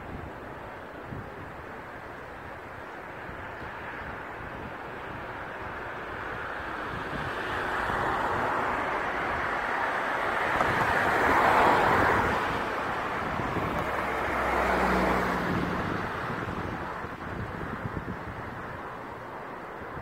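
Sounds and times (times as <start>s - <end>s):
gale-force wind blowing: 0.0s - 20.0s
car passing on wet road: 3.0s - 20.0s.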